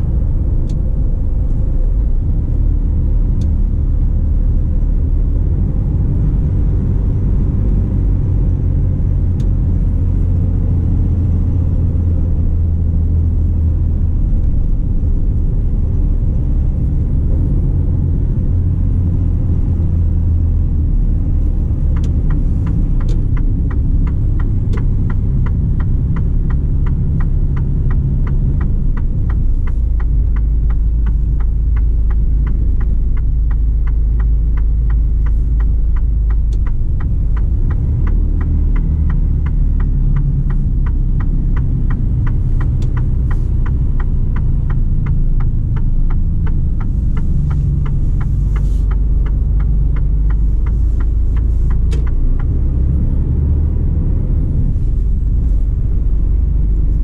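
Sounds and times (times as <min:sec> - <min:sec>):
truck engine and road drone: 0:00.0 - 0:57.0
light ticking: 0:07.8 - 0:57.0.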